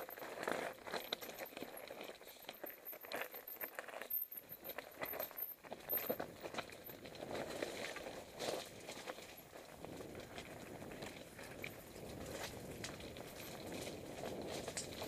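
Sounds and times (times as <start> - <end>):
mountain bike rattling over stones: 0.0 - 15.0.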